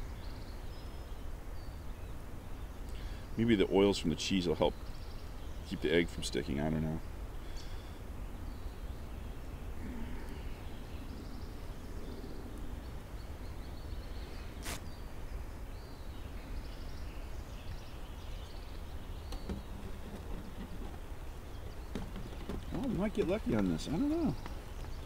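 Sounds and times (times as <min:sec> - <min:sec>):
bird chirps and trills: 0:00.1 - 0:25.0.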